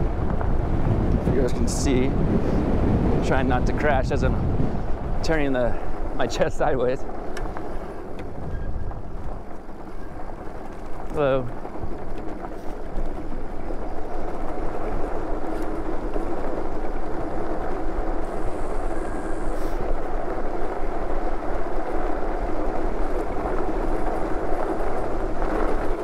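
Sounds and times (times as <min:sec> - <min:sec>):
bike tyres rolling over dirt: 0:00.0 - 0:26.0.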